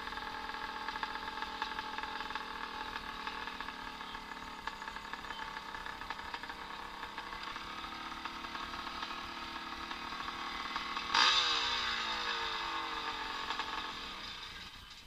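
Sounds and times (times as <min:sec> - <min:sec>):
motocross motorcycle engines racing: 0:00.0 - 0:15.0
motorcycle passing by: 0:00.0 - 0:15.0.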